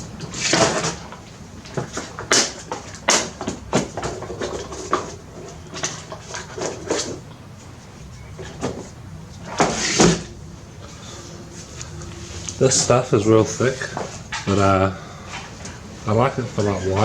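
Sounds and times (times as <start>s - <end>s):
objects clattering: 0.0s - 7.3s, 8.2s - 17.0s.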